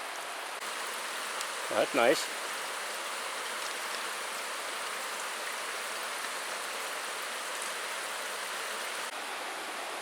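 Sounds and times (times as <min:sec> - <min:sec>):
stream running over rocks: 0:00.0 - 0:09.8.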